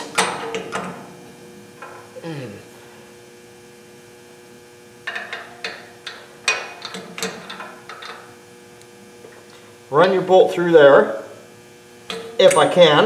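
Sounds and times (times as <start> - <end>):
mains hum: 0.0 - 13.0.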